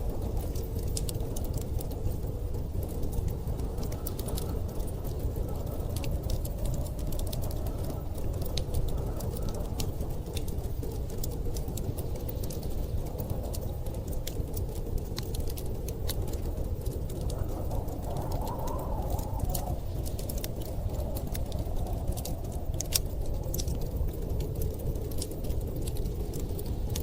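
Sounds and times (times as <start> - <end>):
low rumble of storm wind: 0.0 - 27.0
wood fire crackling: 0.0 - 27.0.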